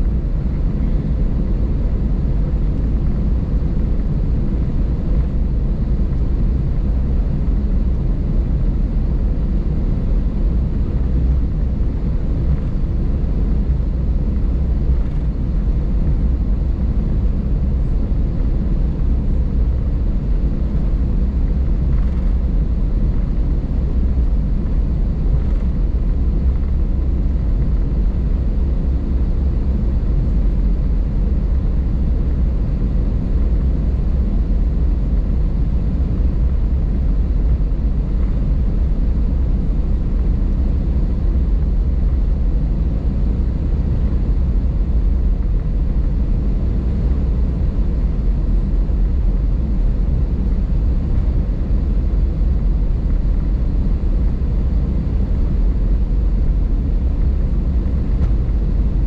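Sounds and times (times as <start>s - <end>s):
aircraft cabin low rumble: 0.0s - 59.0s.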